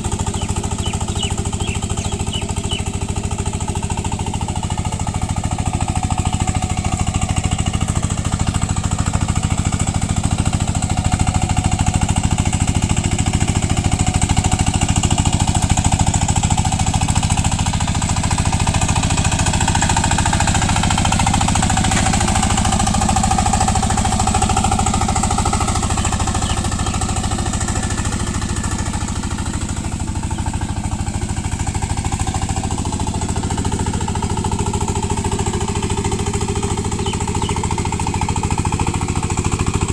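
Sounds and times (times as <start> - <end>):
diesel tiller engine chugging: 0.0 - 39.9.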